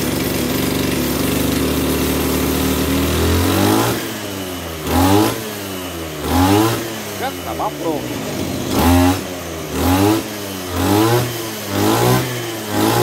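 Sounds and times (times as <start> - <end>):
brush cutter engine revving: 0.0 - 13.0.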